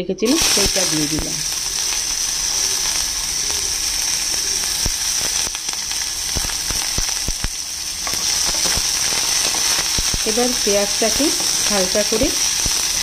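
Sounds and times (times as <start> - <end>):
onion sizzling in oil: 0.2 - 13.0
oil crackling and popping: 0.3 - 13.0.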